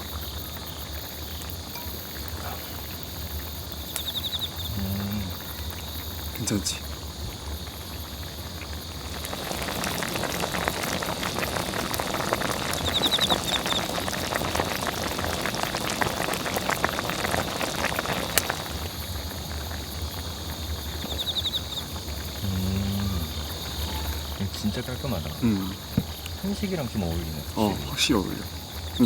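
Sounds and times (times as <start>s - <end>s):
crickets trilling: 0.0s - 29.0s
pot boiling and bubbling: 0.0s - 29.0s.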